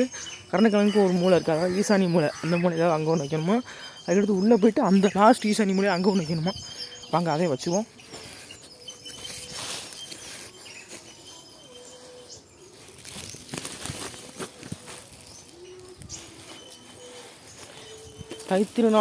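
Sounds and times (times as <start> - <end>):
footsteps rustling dry vegetation: 0.0 - 19.0.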